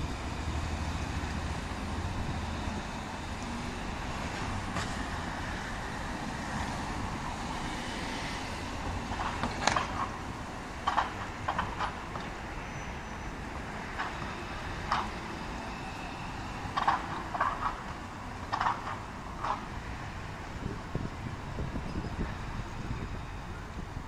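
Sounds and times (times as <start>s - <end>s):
tram rumbling past: 0.0s - 24.0s.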